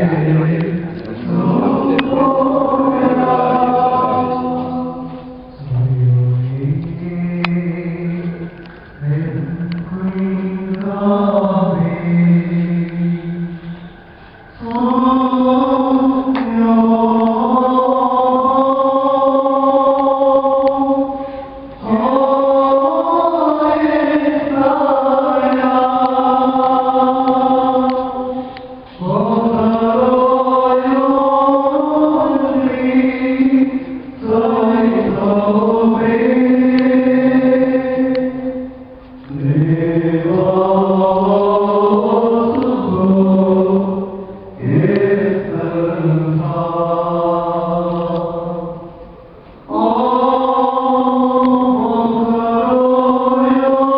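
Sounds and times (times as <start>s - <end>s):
group singing liturgical chant: 0.0s - 53.9s.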